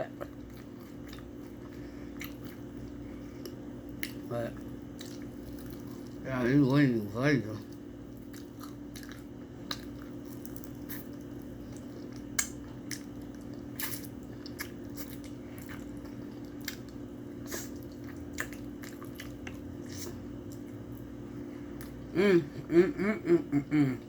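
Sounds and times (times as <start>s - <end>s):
steady low hum: 0.0s - 24.0s
wet chewing and lip smacking: 0.3s - 6.2s, 7.7s - 21.1s.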